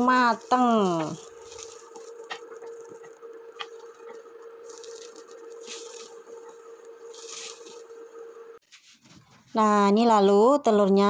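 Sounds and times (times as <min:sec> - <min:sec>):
electric cooktop hum: 0:00.0 - 0:11.0.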